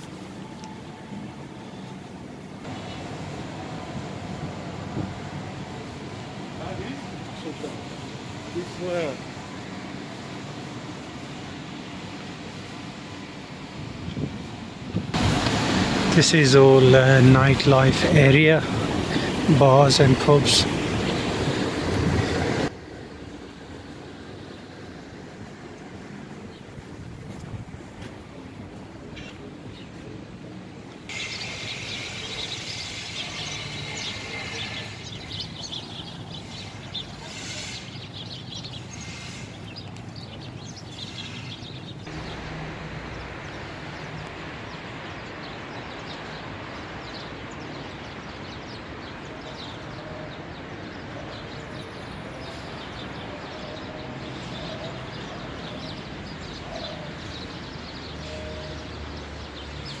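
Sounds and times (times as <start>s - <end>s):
birds chirping: 0.0s - 14.3s, 15.0s - 60.0s
street background noise: 0.0s - 60.0s.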